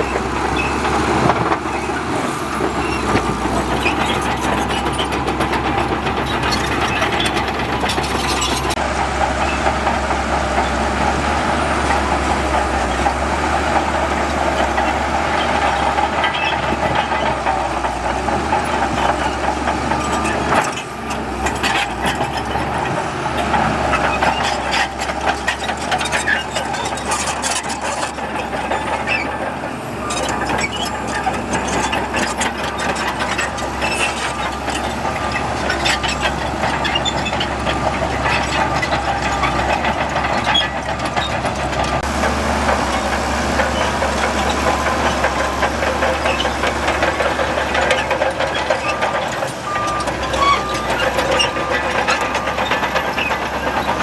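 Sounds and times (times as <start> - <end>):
diesel earthmoving machinery: 0.0 - 54.0.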